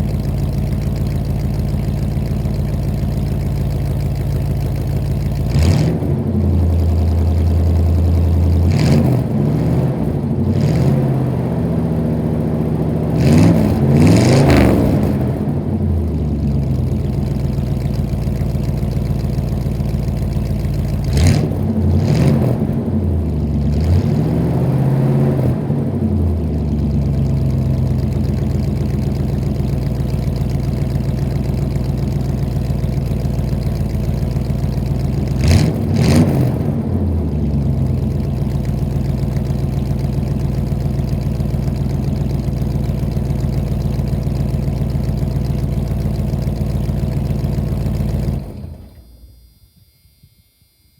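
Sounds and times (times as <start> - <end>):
car engine idling and revving: 0.0 - 49.2.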